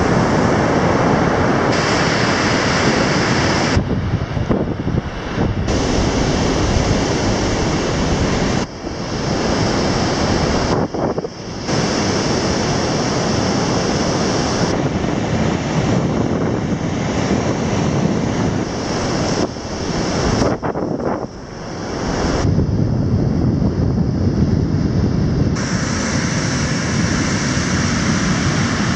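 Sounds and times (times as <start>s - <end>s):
surf waves rushing: 0.0s - 22.6s, 25.2s - 28.9s
wind buffeting microphone: 0.0s - 28.9s.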